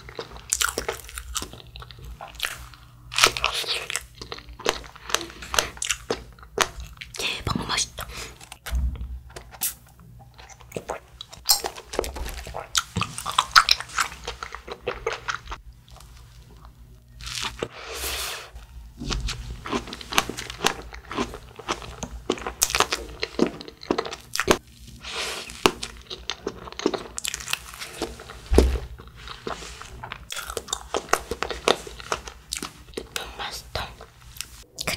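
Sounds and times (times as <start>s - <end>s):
crunchy eating and chewing: 0.0s - 8.7s, 9.4s - 34.9s.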